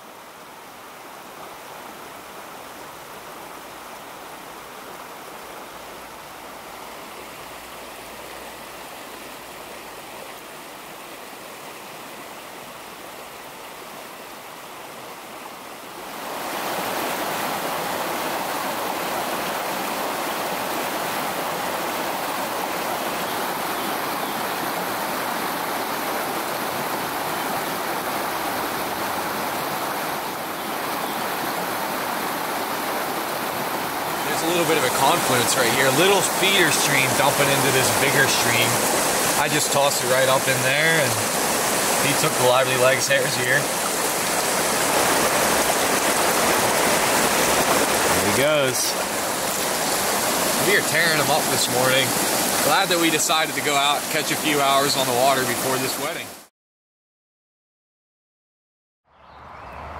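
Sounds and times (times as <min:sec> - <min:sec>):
stream rushing over rocks: 0:00.0 - 0:56.5.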